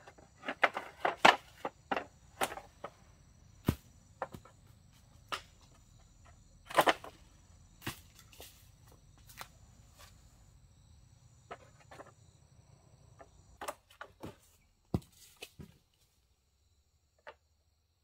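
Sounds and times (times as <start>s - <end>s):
high insect calls: 0.0s - 15.5s.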